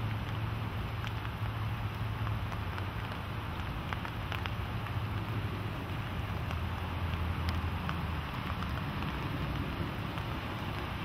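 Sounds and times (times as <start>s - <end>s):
flood water rushing: 0.0s - 11.0s.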